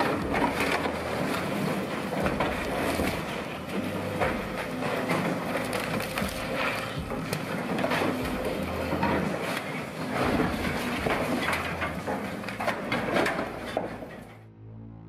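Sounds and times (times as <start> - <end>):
metal and glass crunching: 0.0 - 14.3
machine engine drone: 0.0 - 15.0.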